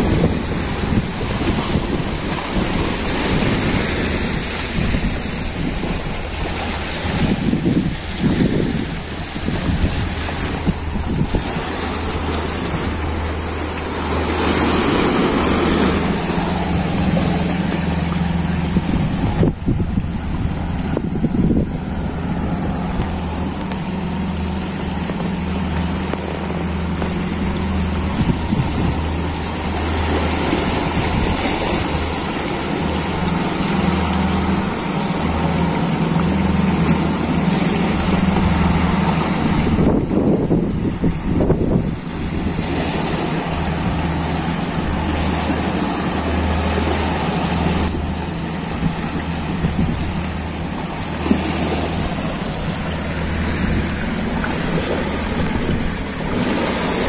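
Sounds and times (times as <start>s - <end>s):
steady low hum: 0.0s - 57.0s
waves lapping over rocks: 0.0s - 57.0s
wind buffeting microphone: 0.0s - 57.0s.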